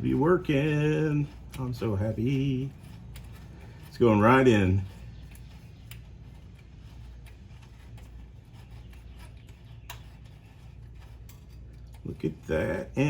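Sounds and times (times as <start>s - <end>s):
cable rubbing: 0.0s - 13.0s
steady low hum: 0.0s - 13.0s.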